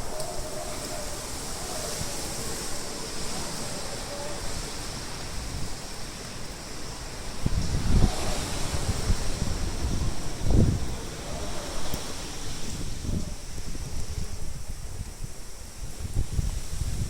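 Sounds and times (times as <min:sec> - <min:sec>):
rain: 0:00.0 - 0:17.0
wind buffeting microphone: 0:00.0 - 0:17.0
wind rushing: 0:00.0 - 0:17.0.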